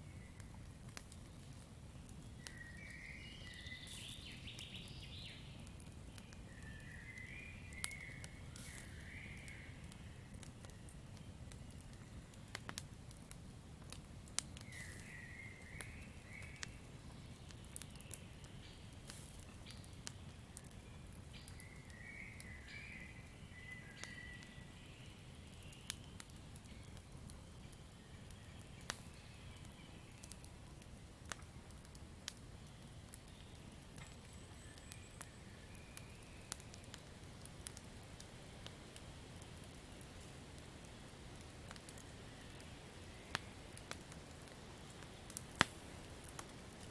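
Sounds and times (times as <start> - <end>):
campfire crackling and popping: 0.0 - 46.9
low rumble of burning: 0.0 - 46.9.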